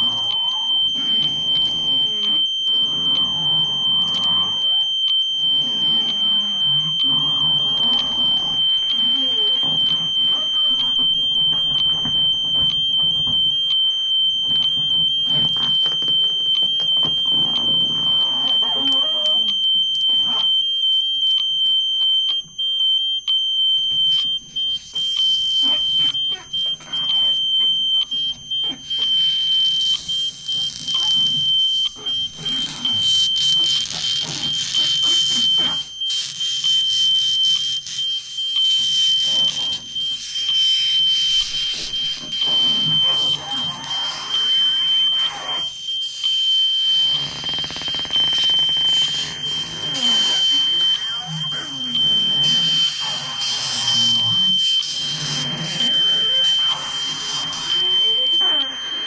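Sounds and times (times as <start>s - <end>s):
high-pitched alarm-like tone: 0.0s - 20.7s, 23.7s - 59.0s.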